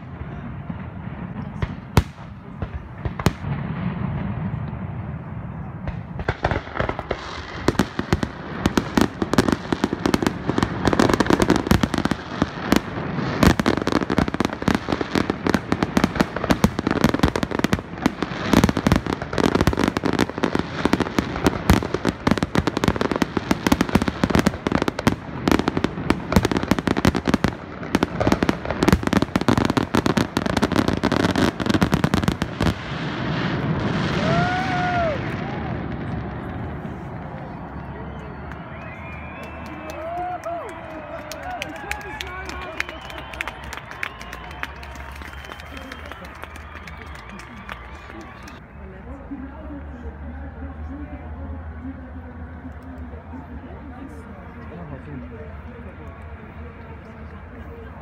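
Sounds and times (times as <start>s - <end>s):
fireworks bangs and crackling: 0.0s - 48.6s.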